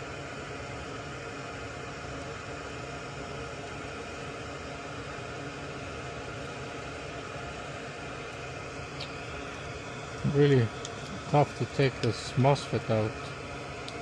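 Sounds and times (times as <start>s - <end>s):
steady hiss and low hum: 0.0s - 14.0s.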